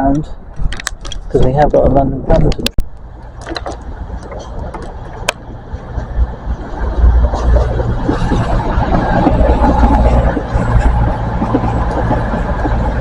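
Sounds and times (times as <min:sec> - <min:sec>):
train rumble and drone: 0:00.0 - 0:13.0.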